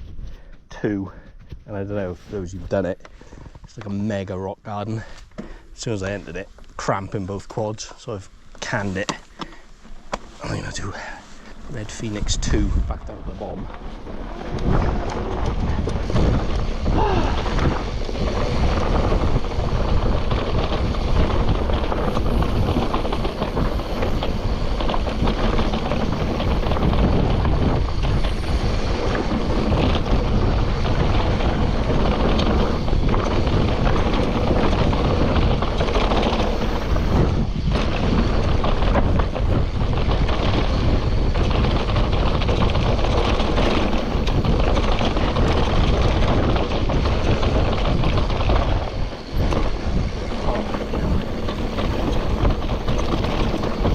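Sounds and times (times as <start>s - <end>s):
bike tyre noise: 0.0s - 53.9s
wind rush on microphone: 0.0s - 53.9s
bike knocks and rattles: 7.5s - 53.9s.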